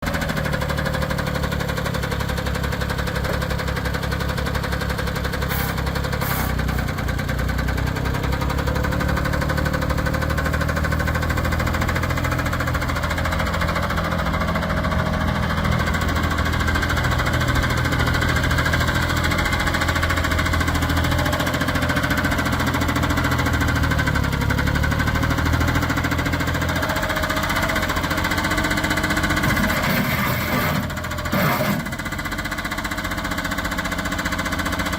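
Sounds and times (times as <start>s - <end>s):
small diesel engine running: 0.0s - 34.9s.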